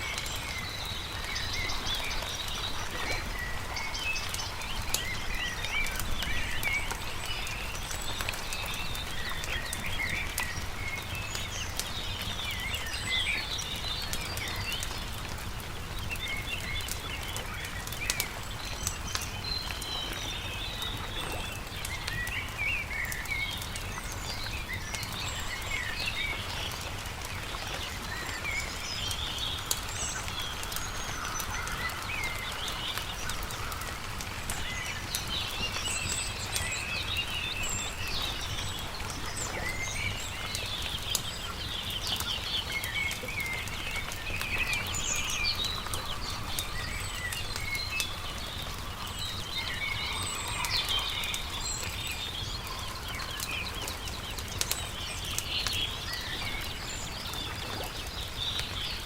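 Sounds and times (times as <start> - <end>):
campfire crackling: 0.0 - 59.0
small birds chirping: 0.0 - 59.0.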